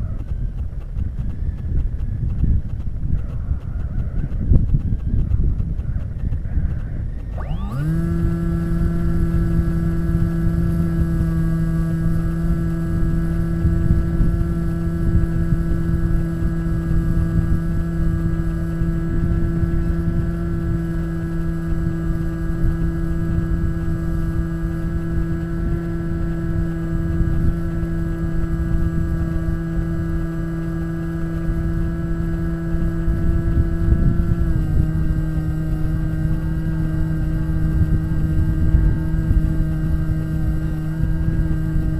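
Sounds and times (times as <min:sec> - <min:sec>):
electric motor and propeller whine: 0:00.0 - 0:41.9
wind rushing over camera: 0:00.0 - 0:41.9.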